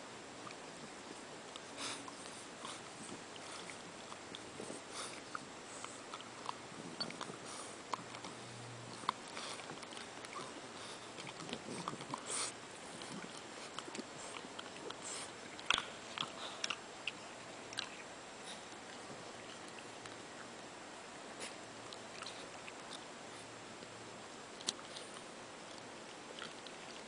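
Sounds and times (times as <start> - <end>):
puppy licking and mouthing rug: 0.4 - 27.0.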